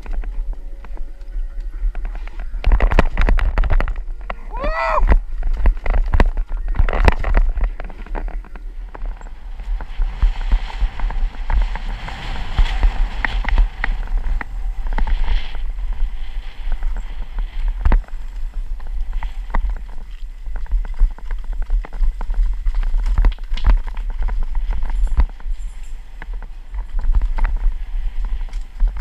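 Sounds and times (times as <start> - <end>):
mountain bike clattering on trail: 0.0 - 29.0
wind rumble on microphone: 0.0 - 29.0.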